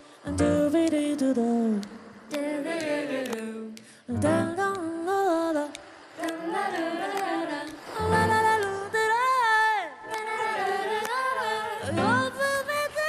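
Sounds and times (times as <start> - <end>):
person singing wordless melody: 0.0 - 13.0.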